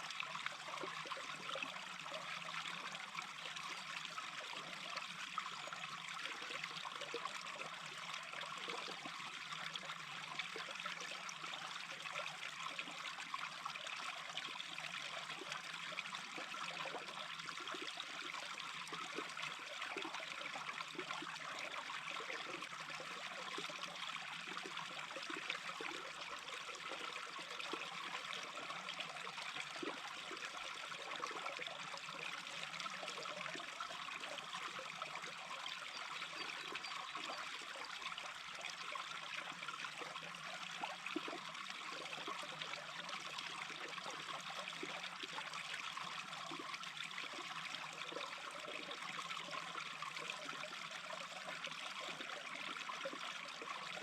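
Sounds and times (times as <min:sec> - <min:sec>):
brook babbling: 0:00.0 - 0:54.0.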